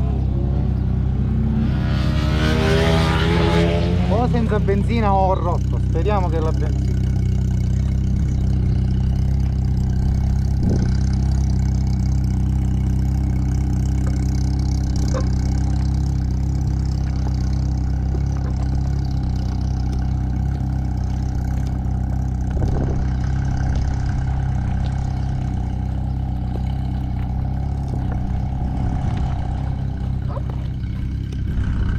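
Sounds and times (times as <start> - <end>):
engine idling: 2.7 - 31.9.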